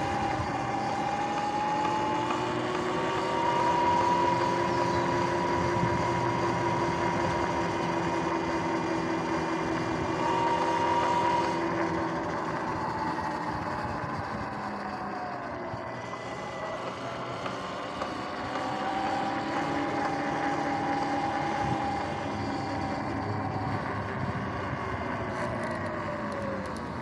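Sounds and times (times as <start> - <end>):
wind noise: 0.0 - 16.2, 20.0 - 27.0
electric motor whining: 0.0 - 27.0.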